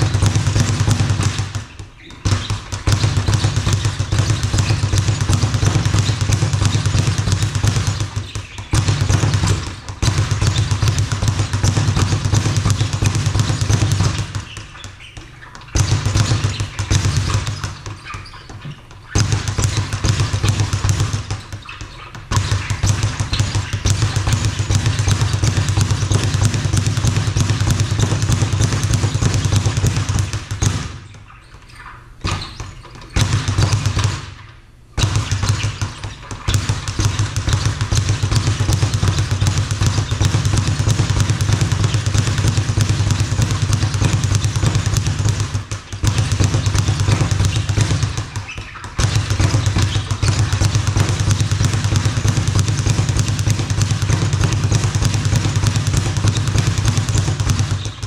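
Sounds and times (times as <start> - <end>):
speed bag rattling: 0.0 - 31.6, 32.2 - 34.4, 35.0 - 58.0.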